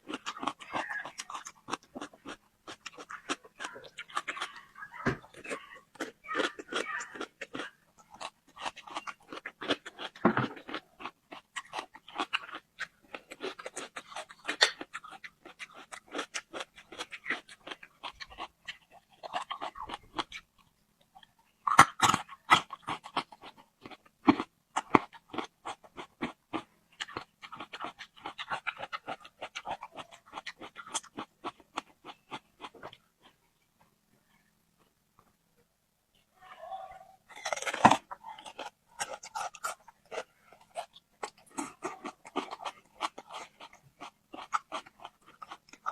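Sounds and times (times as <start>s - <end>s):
chewing and crunching: 0.0s - 33.5s, 36.7s - 45.9s.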